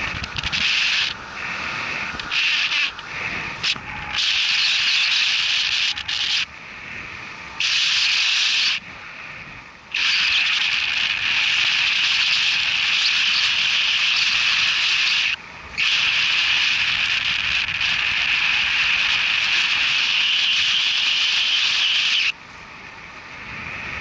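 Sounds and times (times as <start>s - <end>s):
wind rushing over microphone: 0.0s - 22.2s, 23.1s - 24.0s.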